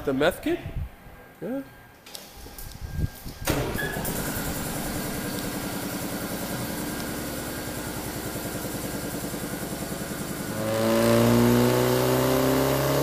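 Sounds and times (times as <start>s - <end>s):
car engine starting and idling: 2.0s - 13.0s.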